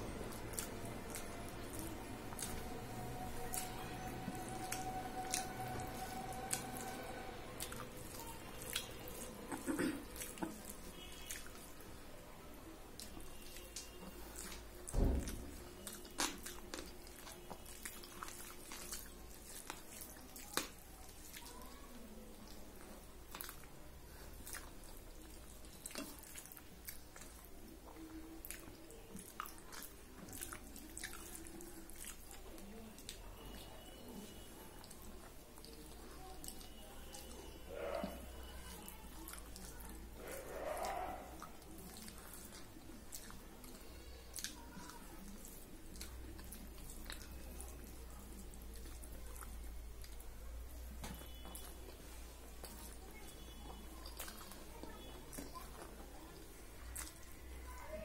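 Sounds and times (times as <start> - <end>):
chewing: 0.0 - 58.0
fingers mixing rice wet squishes: 0.0 - 58.0.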